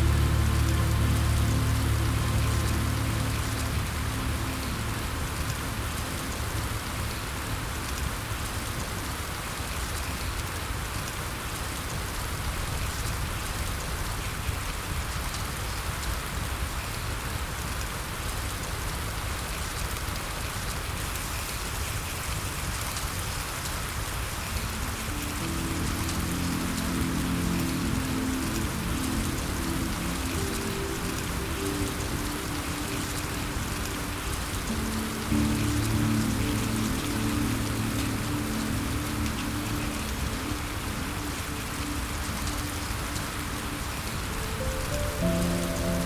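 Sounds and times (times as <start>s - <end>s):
heavy rain pattering: 0.0s - 46.0s.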